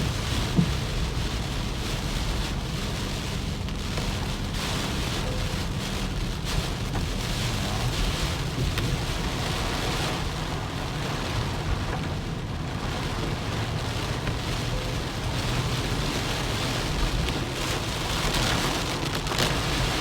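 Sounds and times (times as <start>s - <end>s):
car driving on road: 0.0s - 20.0s
heavy rain: 0.0s - 20.0s.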